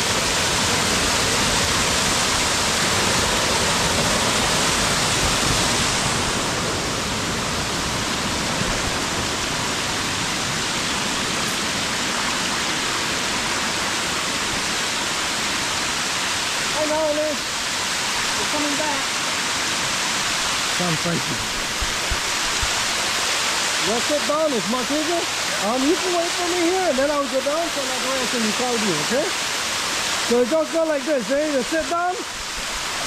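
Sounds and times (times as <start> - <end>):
waterfall rushing over rock: 0.0 - 33.0.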